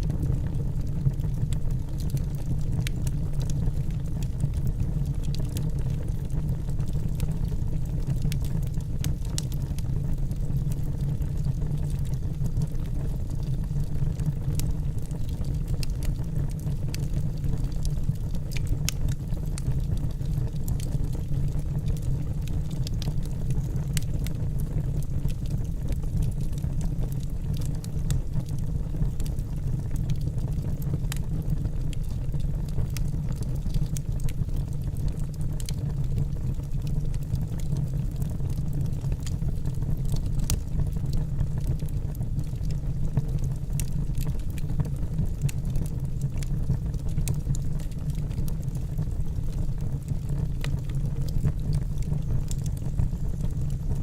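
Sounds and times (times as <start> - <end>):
fire rumbling: 0.0 - 54.0
wood crackling and popping: 0.0 - 54.0.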